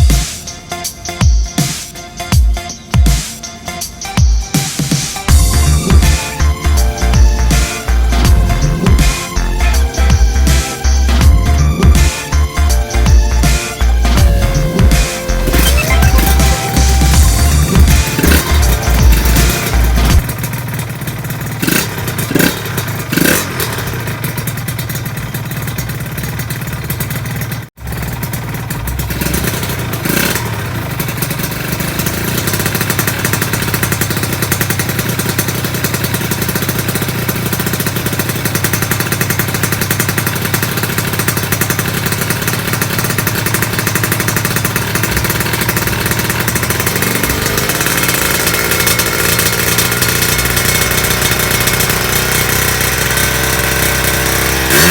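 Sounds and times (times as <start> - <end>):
two-stroke engine running: 0.0 - 54.9.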